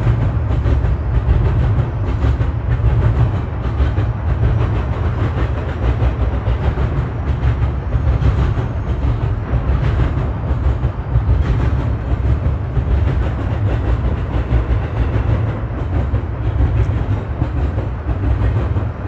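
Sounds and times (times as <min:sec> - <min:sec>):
freight cars rumbling on rails: 0:00.0 - 0:19.0.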